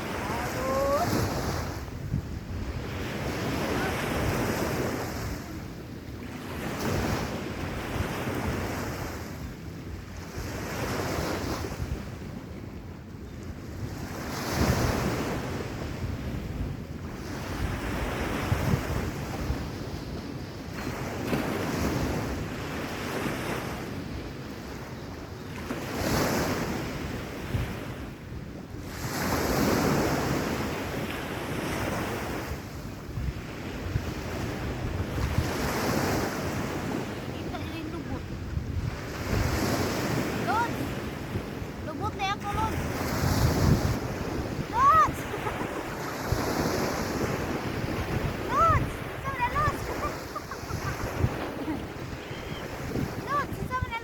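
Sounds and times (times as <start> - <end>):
waves washing onto beach: 0.0 - 12.8, 13.5 - 54.0
wind buffeting microphone: 0.0 - 22.8, 31.8 - 54.0.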